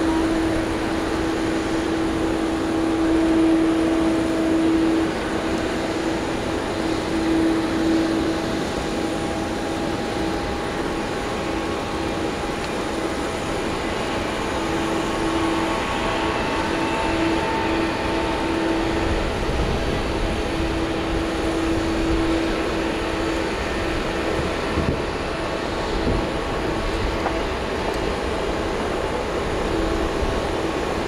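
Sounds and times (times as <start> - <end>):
jet engines running at low power: 0.0 - 31.0.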